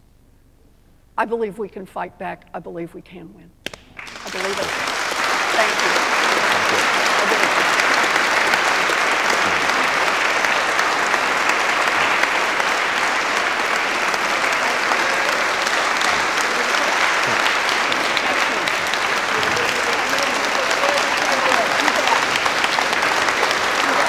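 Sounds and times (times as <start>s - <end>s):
audience applauding: 3.6s - 24.0s.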